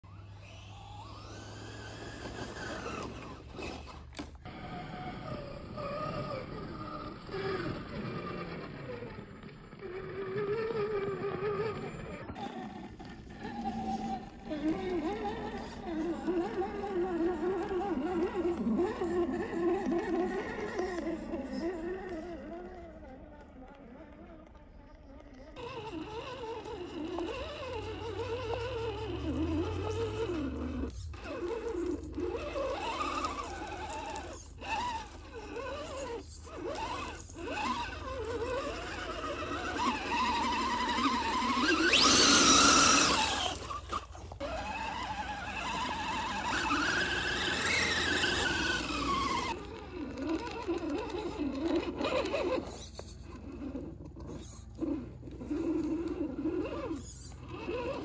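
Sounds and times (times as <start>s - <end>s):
electric motor and gears whining: 0.0s - 58.0s.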